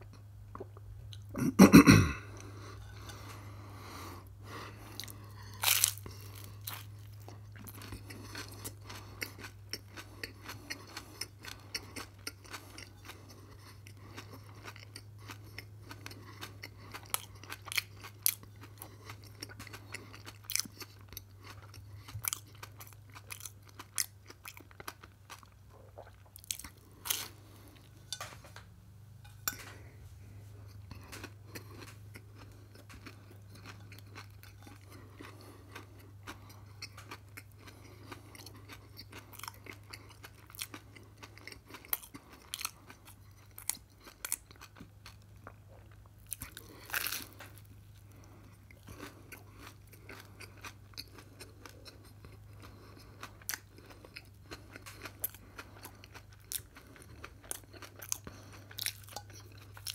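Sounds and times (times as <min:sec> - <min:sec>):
crunchy chewing: 0:02.3 - 0:28.4, 0:29.2 - 0:59.9.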